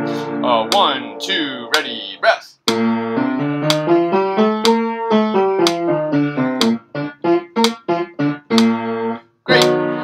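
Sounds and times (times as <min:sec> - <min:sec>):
piano scales and arpeggios: 0:00.0 - 0:10.0.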